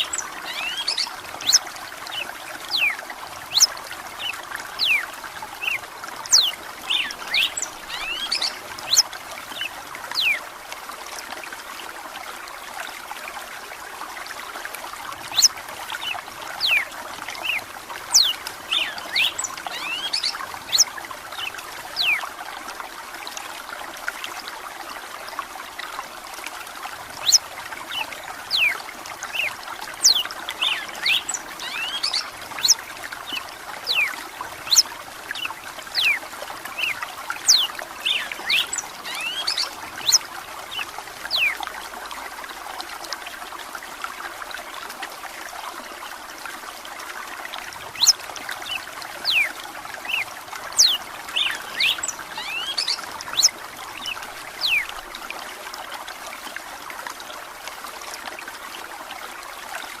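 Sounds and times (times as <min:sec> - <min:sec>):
running water: 0:00.0 - 1:00.0.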